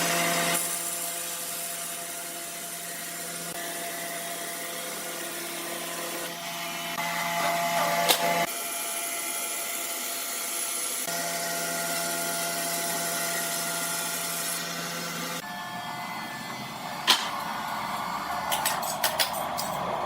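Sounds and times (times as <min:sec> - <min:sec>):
sawmill machinery humming: 0:00.0 - 0:20.0.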